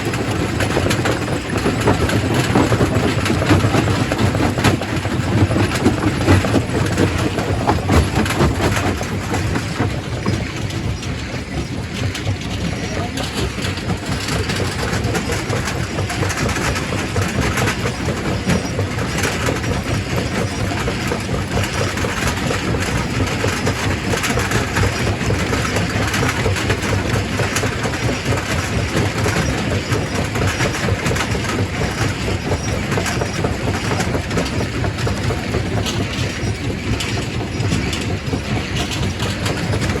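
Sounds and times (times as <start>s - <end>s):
rock crusher rumbling: 0.0s - 40.0s.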